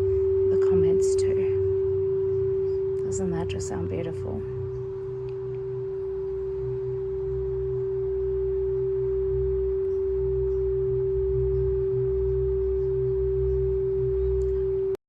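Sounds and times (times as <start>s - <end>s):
crystal singing bowl tone: 0.0s - 15.0s
low rumble: 0.0s - 15.0s.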